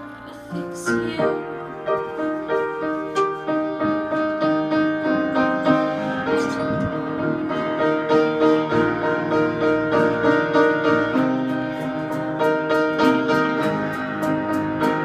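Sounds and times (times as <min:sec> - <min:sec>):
piano accompaniment: 0:00.0 - 0:15.0.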